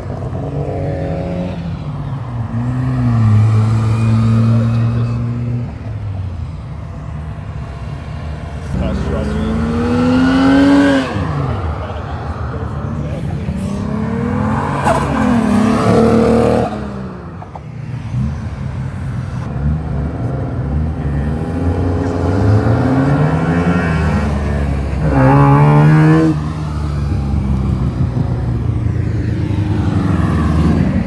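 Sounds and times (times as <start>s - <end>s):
car engines revving past: 0.0s - 31.0s.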